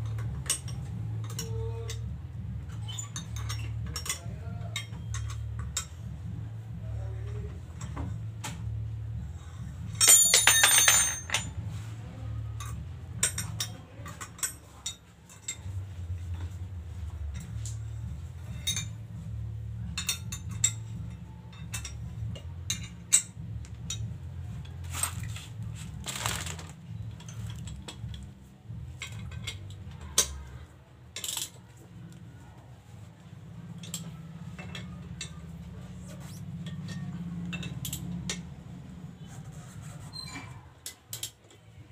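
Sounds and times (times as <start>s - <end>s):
metal tools clinking and knocking: 0.0s - 6.1s, 9.5s - 11.8s, 12.5s - 31.8s, 33.5s - 38.5s, 40.1s - 41.6s.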